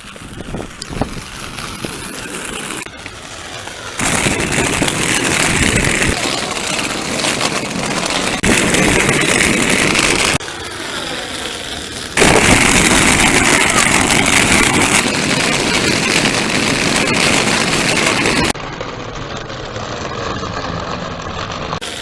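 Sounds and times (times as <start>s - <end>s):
rollerblade wheels rolling: 0.0s - 22.0s.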